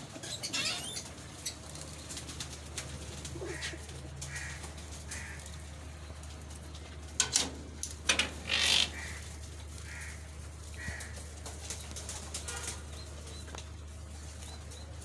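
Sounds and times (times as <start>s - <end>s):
doves calling softly: 0.0s - 7.2s, 8.2s - 15.0s.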